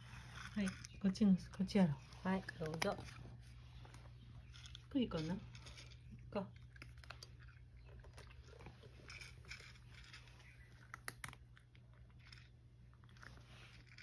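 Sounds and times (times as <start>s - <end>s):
cat crunching dry kibble: 0.0s - 14.0s.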